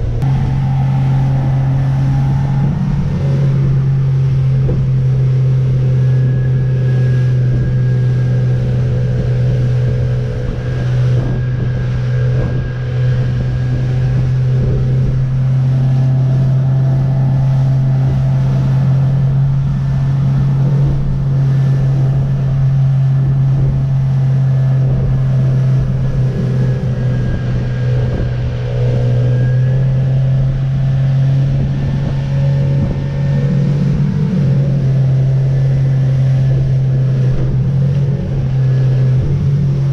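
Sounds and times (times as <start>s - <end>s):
boat engine droning: 0.0s - 39.9s
wind and water noise: 0.0s - 39.9s.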